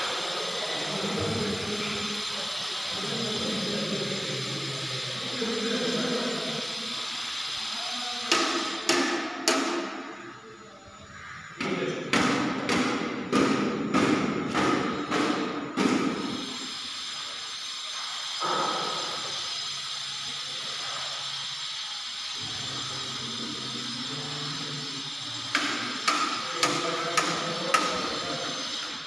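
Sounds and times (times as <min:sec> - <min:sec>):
steady hiss: 0:00.0 - 0:11.4, 0:12.2 - 0:29.0.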